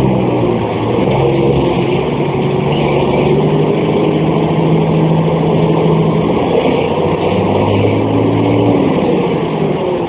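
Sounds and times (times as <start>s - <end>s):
bus diesel engine running: 0.0s - 10.0s.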